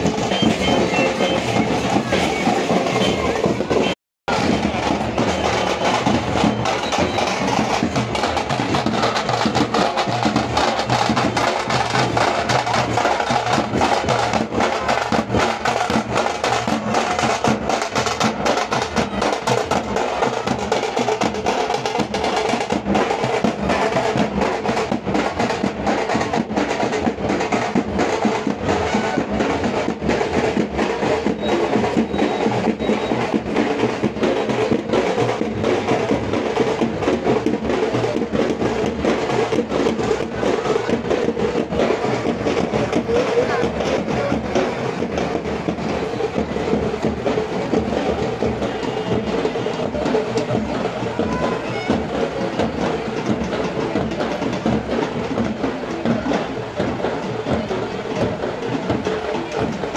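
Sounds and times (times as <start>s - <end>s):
drums beaten fast: 0.0s - 59.9s.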